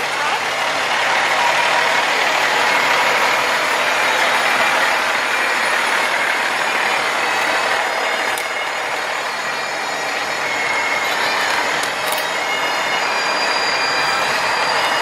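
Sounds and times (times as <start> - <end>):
fire truck driving past: 0.0 - 15.0.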